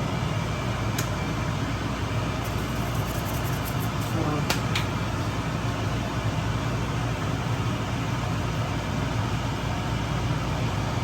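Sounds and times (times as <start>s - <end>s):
mechanical hum with hiss: 0.0s - 11.0s.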